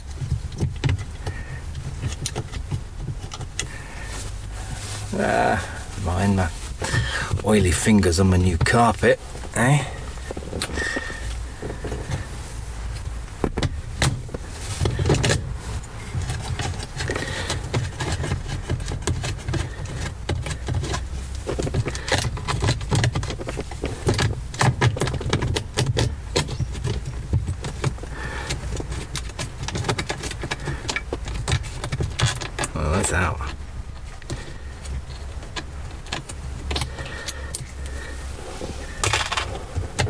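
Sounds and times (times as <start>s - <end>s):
rubbing and handling noise: 0.0s - 40.0s.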